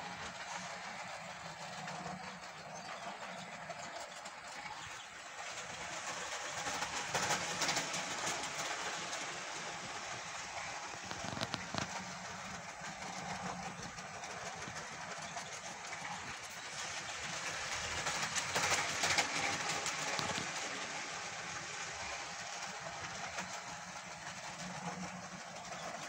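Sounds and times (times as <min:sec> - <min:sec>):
model train motor whirring: 0:00.0 - 0:26.0
wheels clicking over rail joints: 0:00.0 - 0:26.0.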